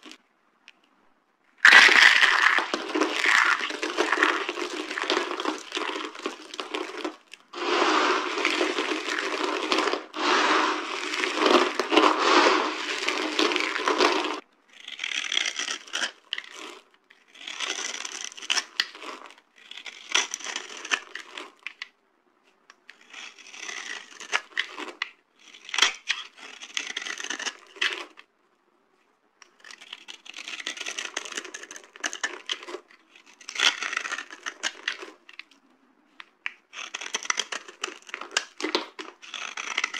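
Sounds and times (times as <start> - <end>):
dry soap crunching: 1.6 - 21.8, 23.0 - 28.2, 29.6 - 35.6, 36.5 - 39.9.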